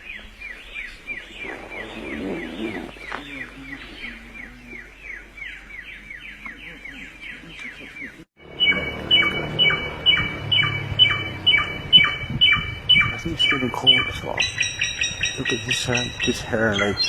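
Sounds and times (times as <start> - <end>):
songbird downward sweeping notes: 0.0 - 6.8, 8.4 - 17.0.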